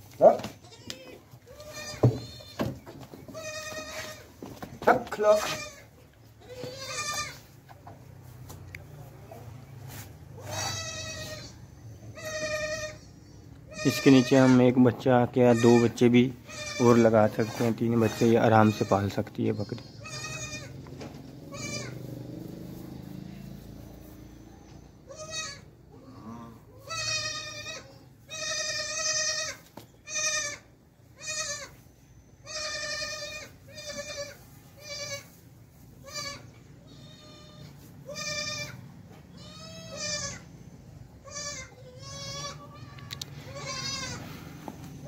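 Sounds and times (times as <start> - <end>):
goats bleating: 0.4 - 7.6, 10.4 - 23.6, 25.1 - 31.8, 32.4 - 35.4, 36.0 - 40.5, 41.2 - 44.6.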